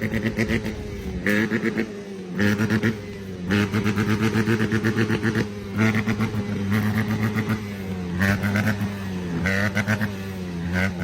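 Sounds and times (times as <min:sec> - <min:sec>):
dirt bike engine at low revs: 0:00.0 - 0:11.0.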